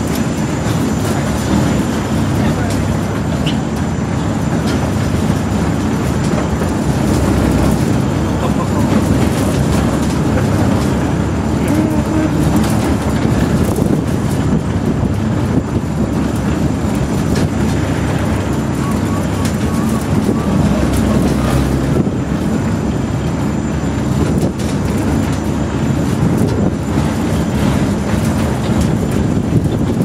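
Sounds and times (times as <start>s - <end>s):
construction elevator rumbling: 0.0s - 30.0s.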